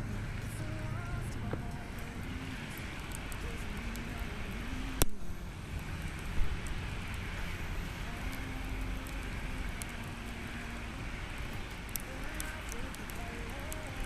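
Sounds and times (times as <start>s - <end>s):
fire rushing hiss: 0.0s - 14.0s
wood fire crackling and popping: 0.0s - 14.0s.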